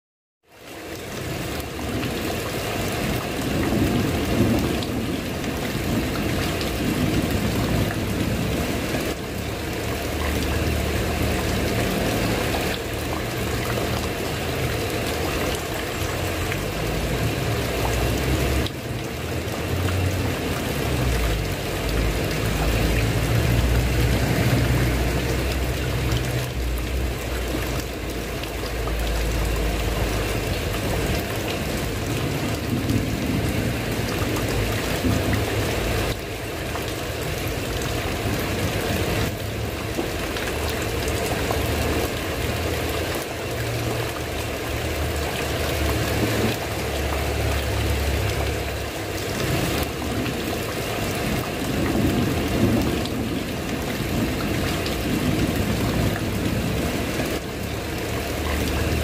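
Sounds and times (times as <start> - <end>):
rain on a tiled roof: 0.4 - 59.0.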